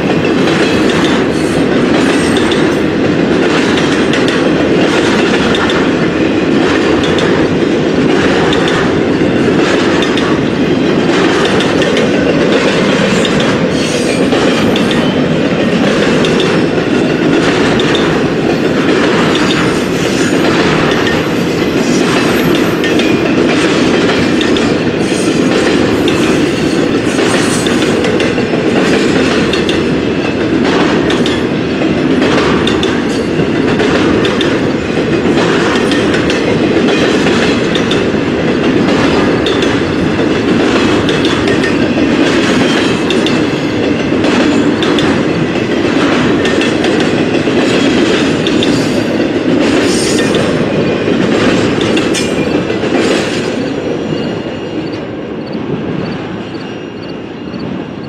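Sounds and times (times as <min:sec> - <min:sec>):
wheels clicking over rail joints: 0:00.0 - 0:53.8
freight train rumble: 0:00.0 - 0:58.0.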